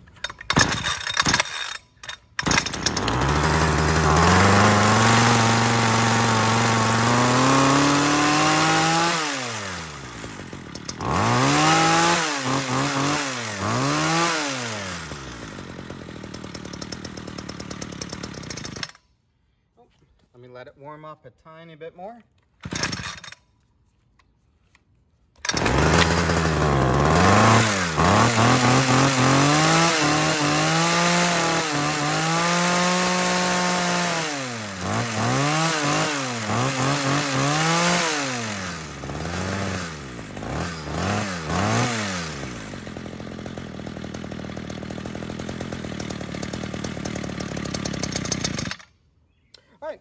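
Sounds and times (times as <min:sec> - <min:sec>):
hedge trimmer engine revving: 0:00.5 - 0:19.0, 0:22.6 - 0:23.4, 0:25.4 - 0:48.9.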